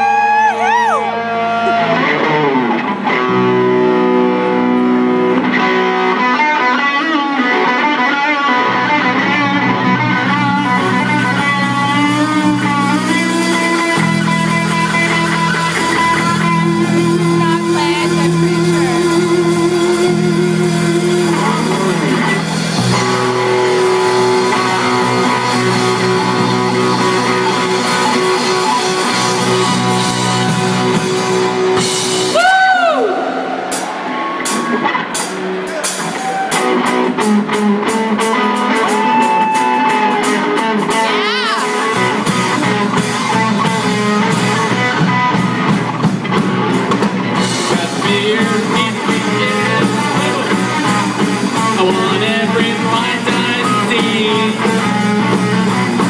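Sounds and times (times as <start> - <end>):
bass guitar: 0.0 - 56.0
electric guitar bending notes: 0.0 - 56.0.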